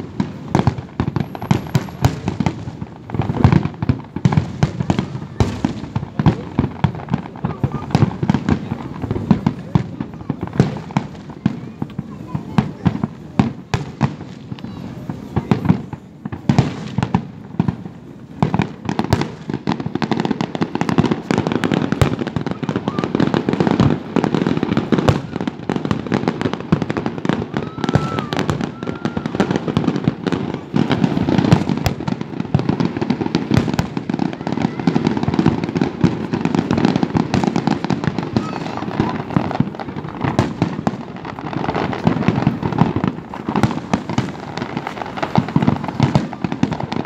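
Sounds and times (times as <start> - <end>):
fireworks cracks and booms: 0.0 - 47.0.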